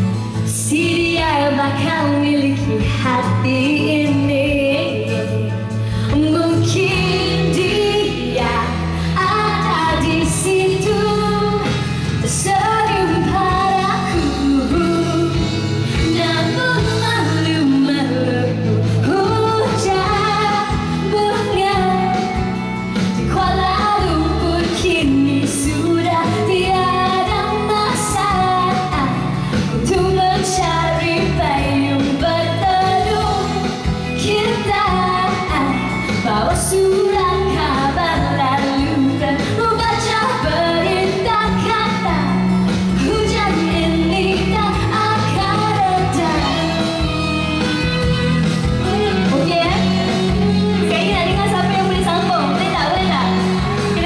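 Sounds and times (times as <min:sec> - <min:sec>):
pop music accompaniment: 0:00.0 - 0:54.0
woman singing into microphone: 0:00.0 - 0:54.0.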